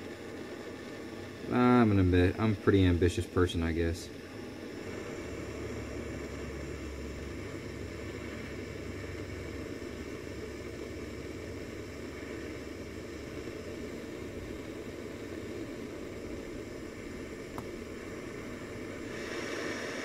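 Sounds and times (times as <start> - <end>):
propane torch hissing: 0.0 - 20.0.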